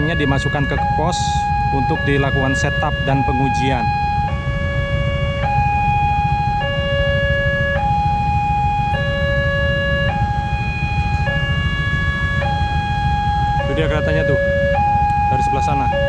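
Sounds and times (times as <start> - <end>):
level crossing two-tone alarm: 0.0 - 16.0.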